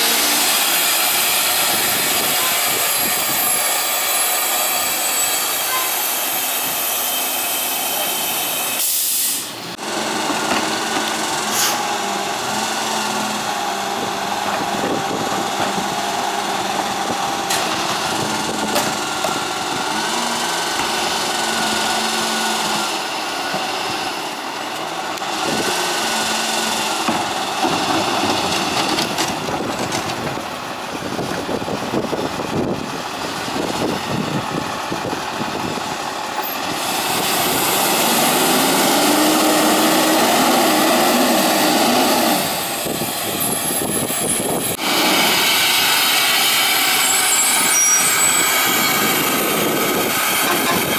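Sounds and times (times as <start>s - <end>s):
hydraulics whining and hissing: 0.0s - 50.9s
truck engine running: 9.6s - 50.9s.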